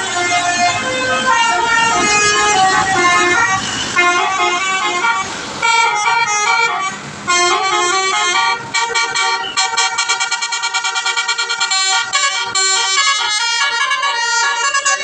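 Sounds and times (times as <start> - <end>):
musical air horn melody: 0.0 - 15.0.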